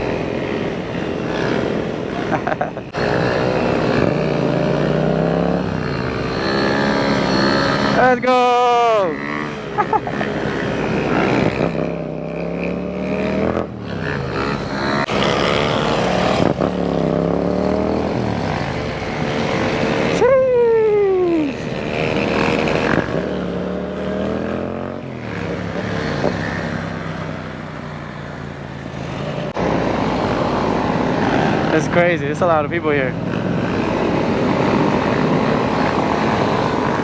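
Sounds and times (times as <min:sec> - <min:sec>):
motorcycle passing by: 0:00.0 - 0:20.4, 0:21.0 - 0:37.0
motorcycle engines revving: 0:00.0 - 0:37.0.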